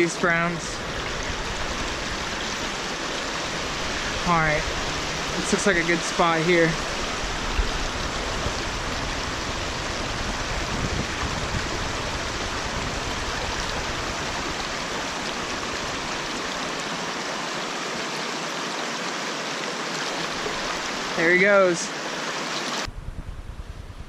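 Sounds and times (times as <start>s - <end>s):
stream water rushing: 0.0s - 22.9s.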